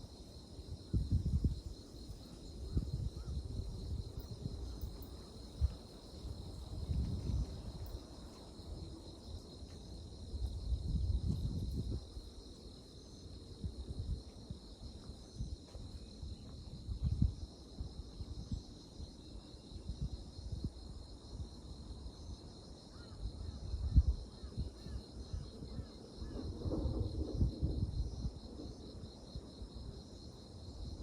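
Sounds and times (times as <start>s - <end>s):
insects chirring: 0.0s - 31.0s
wind rumble on microphone: 0.0s - 31.0s.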